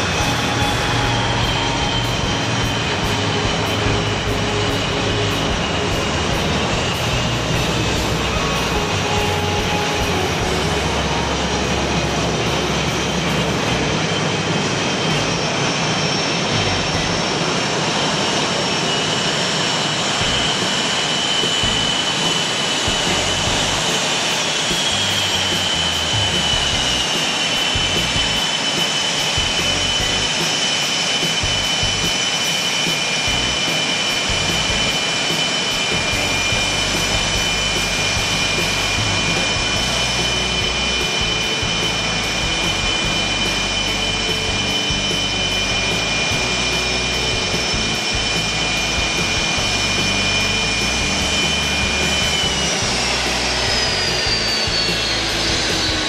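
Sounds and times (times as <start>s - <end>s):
broad jet engine noise: 0.0s - 56.0s
jet turbine whine: 0.0s - 56.0s.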